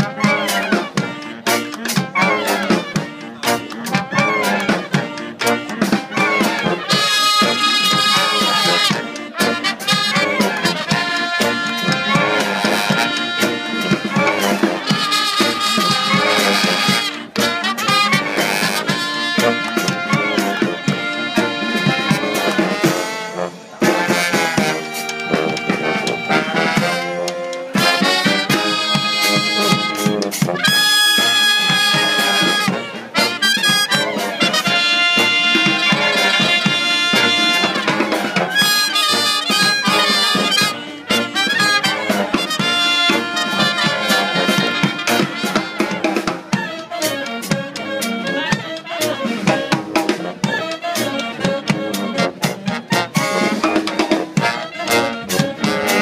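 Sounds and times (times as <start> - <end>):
hand drum: 0.0 - 23.2, 23.8 - 56.0
brass band playing: 0.0 - 56.0.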